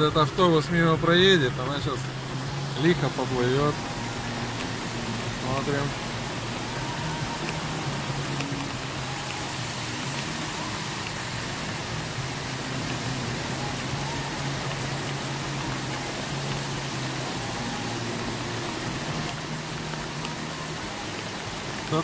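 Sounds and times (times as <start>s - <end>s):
floodwater rushing: 0.0s - 22.0s
rain: 0.0s - 22.0s.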